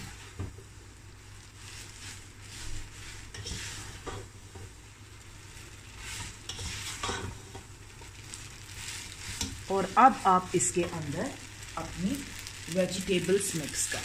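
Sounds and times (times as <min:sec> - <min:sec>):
spaghetti sizzling in oil: 0:00.0 - 0:14.0.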